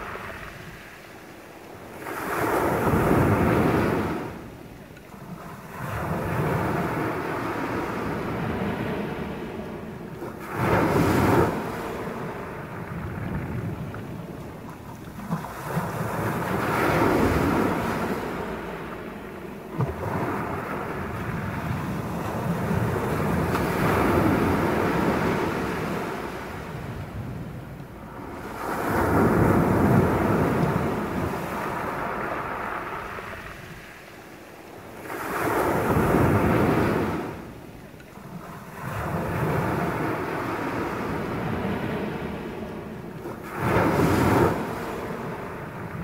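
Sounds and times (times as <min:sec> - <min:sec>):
surf on pebble beach: 0:00.0 - 0:46.0.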